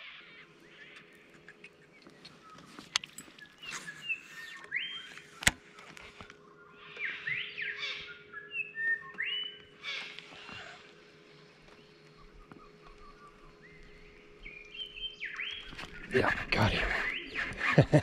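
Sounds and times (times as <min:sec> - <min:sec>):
birds whistling calls: 0:00.0 - 0:18.0.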